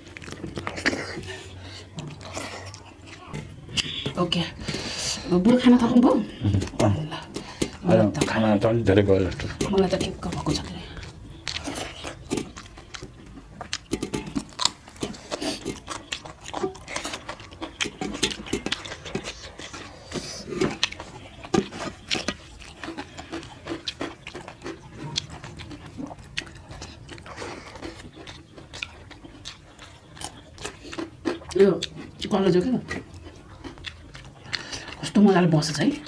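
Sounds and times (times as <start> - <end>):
wet chewing and mouth smacking: 0.0 - 36.0.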